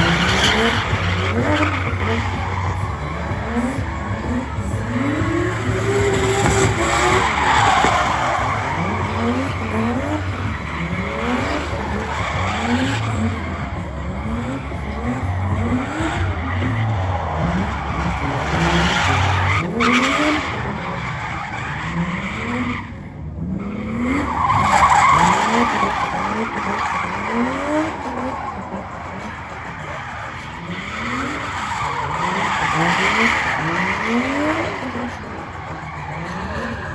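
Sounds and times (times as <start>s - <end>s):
engine revving: 0.0s - 36.9s
tire screeching: 0.0s - 36.9s.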